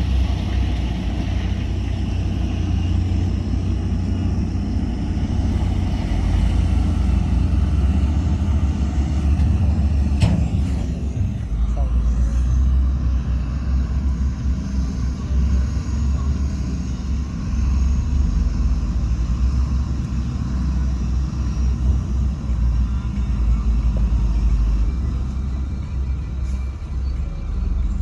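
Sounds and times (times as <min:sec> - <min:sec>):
heavy diesel machinery rumbling: 0:00.0 - 0:28.0.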